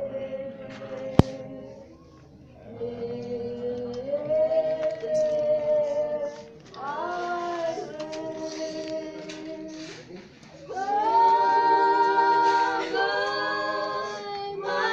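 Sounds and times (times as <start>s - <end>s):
group singing unaccompanied: 0.0s - 2.0s, 2.6s - 14.9s.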